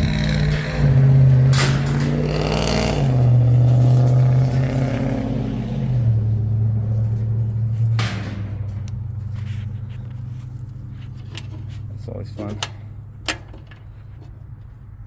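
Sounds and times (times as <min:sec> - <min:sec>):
metallic clatter: 0:00.0 - 0:05.2, 0:06.5 - 0:14.4
low motor hum: 0:00.0 - 0:15.0.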